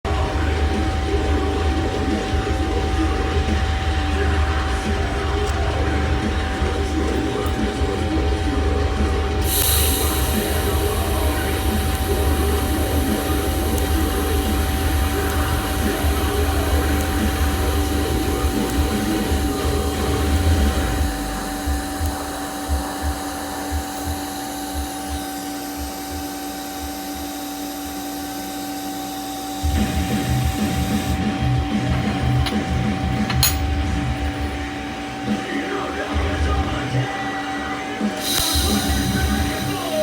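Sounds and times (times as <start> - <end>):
low welding pulses: 0.1 - 35.4, 36.0 - 40.0
welding arc hiss and buzz: 0.1 - 40.0.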